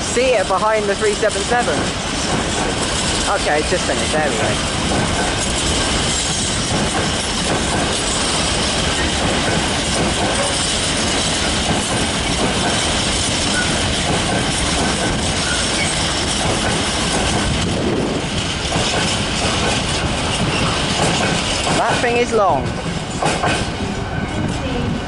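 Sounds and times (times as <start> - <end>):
freight train rail noise: 0.0 - 25.0.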